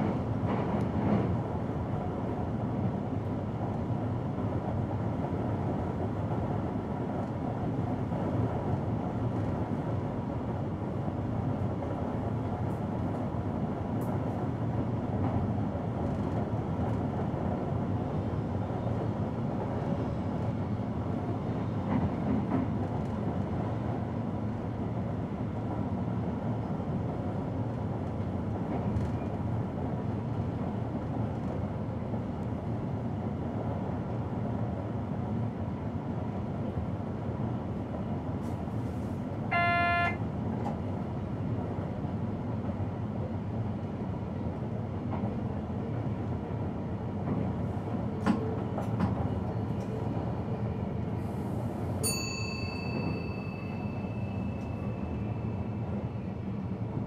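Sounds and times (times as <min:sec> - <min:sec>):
train wheels running on rail: 0:00.0 - 0:39.5, 0:40.1 - 0:57.0.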